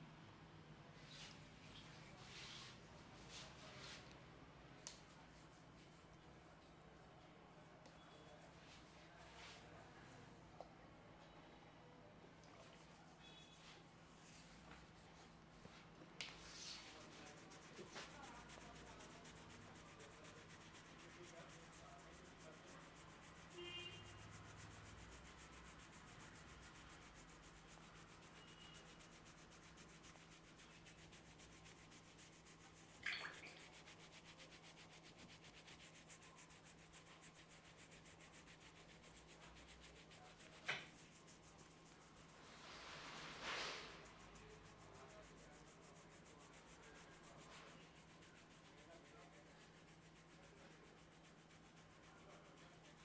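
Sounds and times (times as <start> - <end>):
hands rubbing hair and scalp: 1.1 - 4.2, 12.6 - 53.0.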